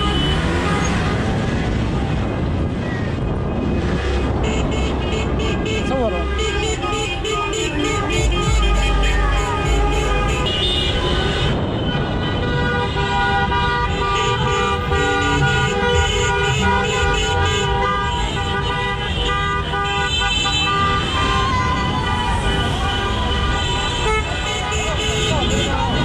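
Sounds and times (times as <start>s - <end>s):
car horns honking: 0.0s - 2.4s, 3.2s - 26.0s.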